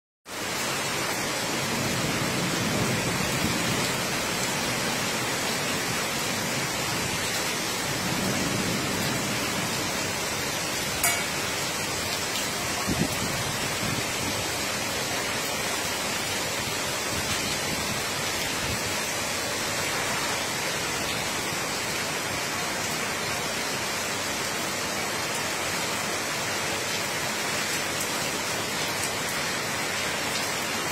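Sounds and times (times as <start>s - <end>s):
heavy rain pouring: 0.3s - 30.9s.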